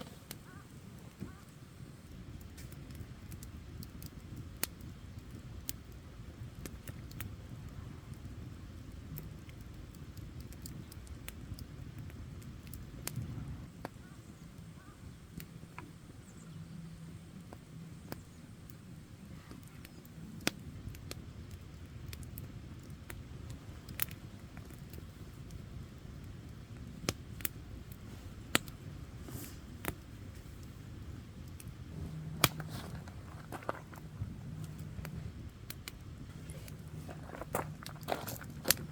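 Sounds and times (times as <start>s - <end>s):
burning wood crackling and popping: 0.0s - 38.9s
rush of fire flames: 0.0s - 38.9s.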